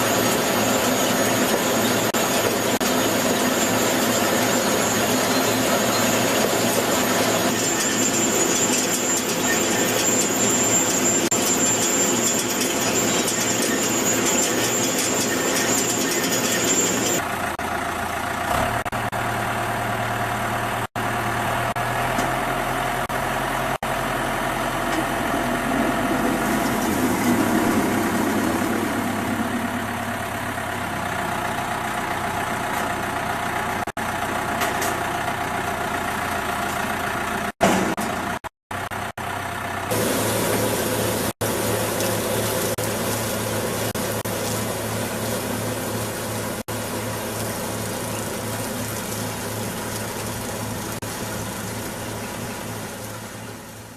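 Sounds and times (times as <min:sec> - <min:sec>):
harvester engine and machinery clatter: 0:00.0 - 0:53.9.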